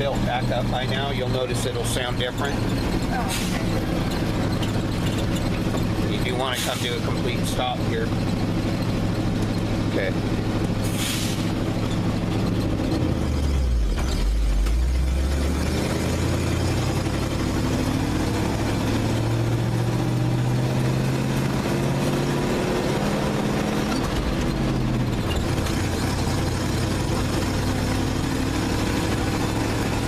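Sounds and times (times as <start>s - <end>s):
dump truck engine pulling away: 0.0s - 30.0s.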